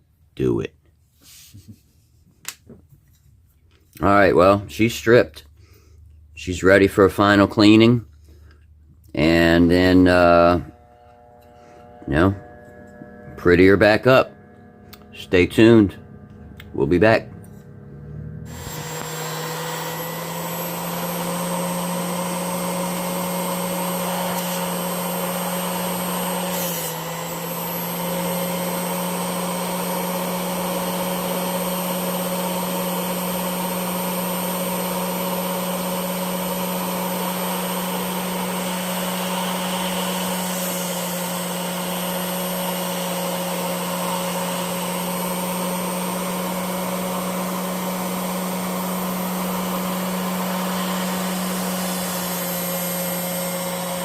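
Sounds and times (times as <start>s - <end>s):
buffing wheel motor humming: 9.3s - 54.0s.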